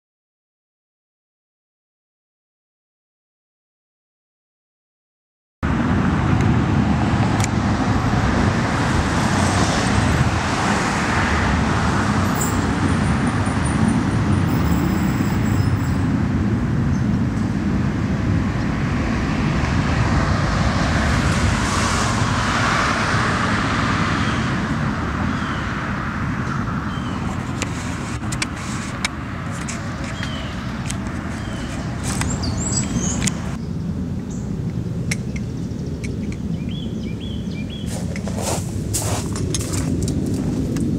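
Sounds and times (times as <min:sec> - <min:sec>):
road traffic: 0:05.6 - 0:40.9.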